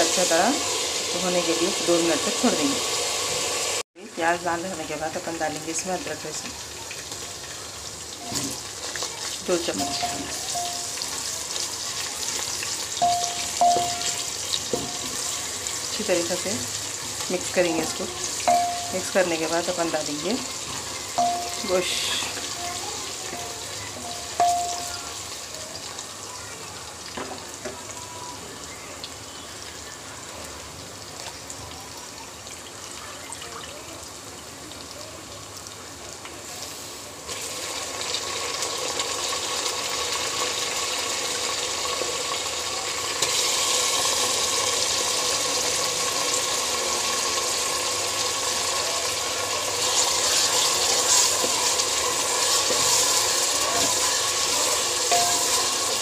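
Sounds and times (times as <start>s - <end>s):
meat and onions sizzling: 0.0s - 56.0s.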